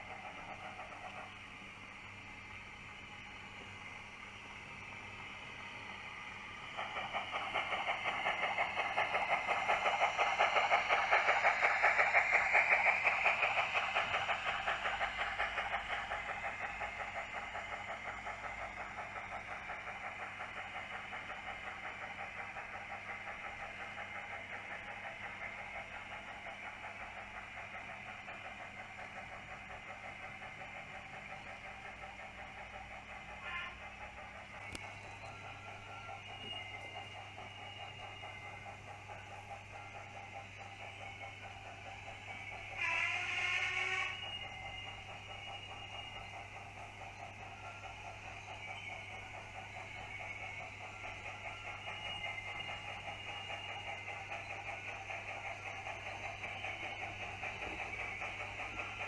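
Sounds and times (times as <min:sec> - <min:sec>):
model train steam chuffing: 0:00.0 - 0:59.0.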